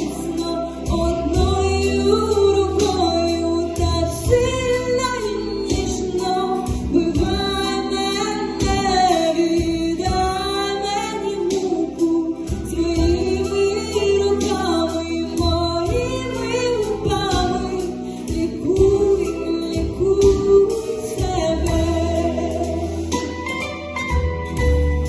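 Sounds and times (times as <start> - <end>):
instrumental accompaniment: 0.0 - 25.0.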